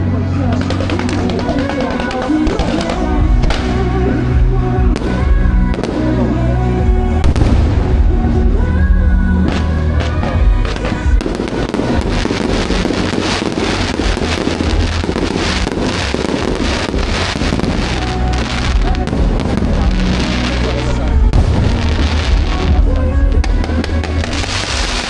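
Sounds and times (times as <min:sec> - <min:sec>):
fireworks crackling and popping: 0:00.0 - 0:25.0
loud music: 0:00.0 - 0:25.0.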